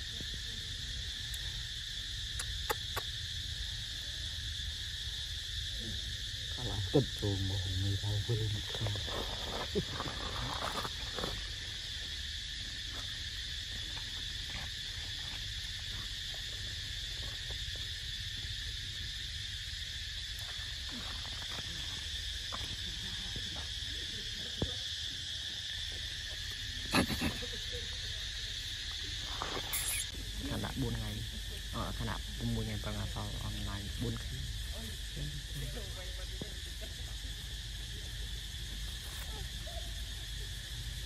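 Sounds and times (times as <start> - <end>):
insect chorus droning: 0.0 - 41.0.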